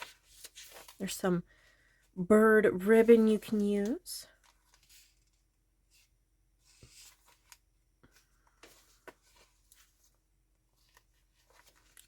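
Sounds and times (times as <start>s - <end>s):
paper pages rustling: 0.0s - 1.2s, 2.9s - 12.0s.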